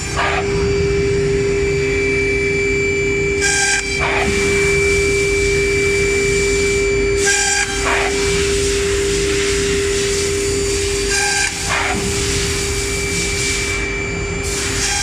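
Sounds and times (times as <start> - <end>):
spindle hum: 0.0 - 15.0.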